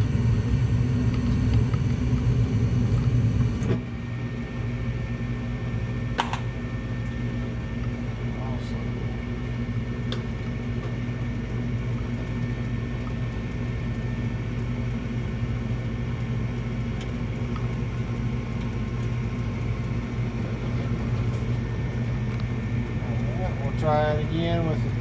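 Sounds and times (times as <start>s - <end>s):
furnace hum: 0.0s - 25.0s.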